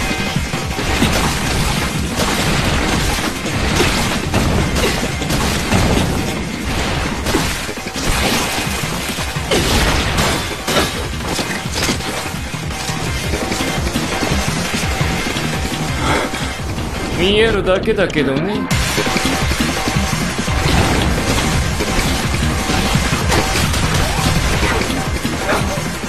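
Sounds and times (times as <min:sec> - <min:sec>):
crashing impacts: 0:00.0 - 0:16.0, 0:18.7 - 0:26.0.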